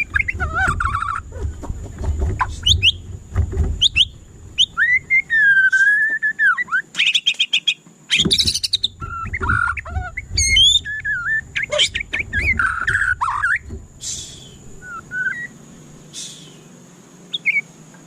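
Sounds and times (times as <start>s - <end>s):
bird singing whistled song: 0.0s - 1.3s, 2.4s - 3.0s, 3.8s - 16.7s, 17.3s - 17.7s.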